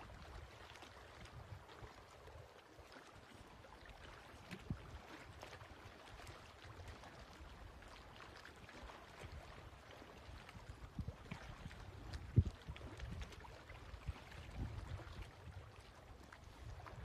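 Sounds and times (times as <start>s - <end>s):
small waves lapping on shore: 0.0s - 17.0s.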